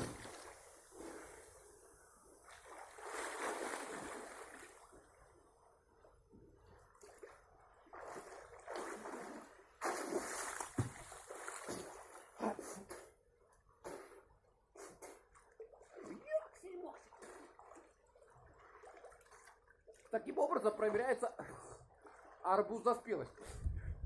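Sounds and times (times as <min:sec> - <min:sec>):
sea water splashing and sloshing: 0:00.0 - 0:01.8, 0:02.4 - 0:05.4, 0:06.2 - 0:12.5, 0:15.2 - 0:23.6.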